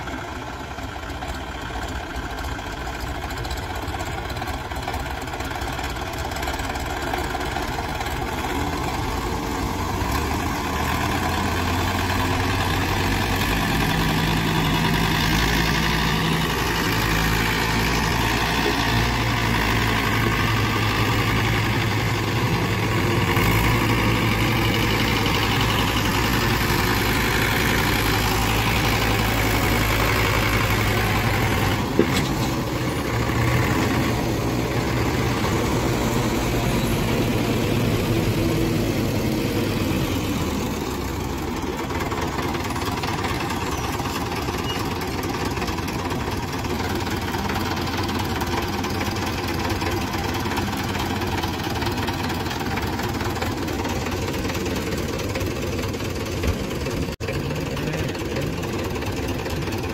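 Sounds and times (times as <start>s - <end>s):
diesel tractor engines running hard: 0.0s - 59.9s.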